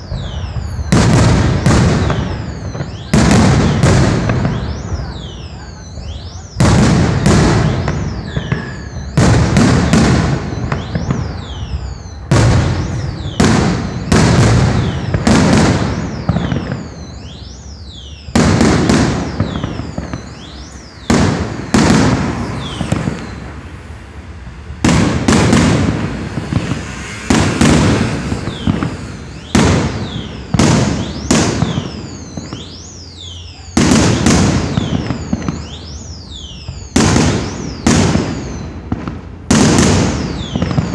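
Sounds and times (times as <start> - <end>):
firework shells bursting: 0.0 - 33.0.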